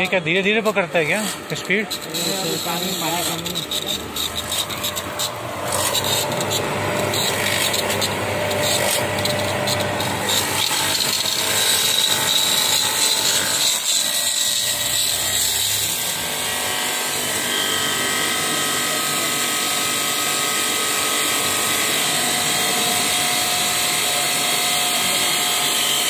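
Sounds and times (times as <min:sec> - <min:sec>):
pressure washer running: 0:00.0 - 0:26.0.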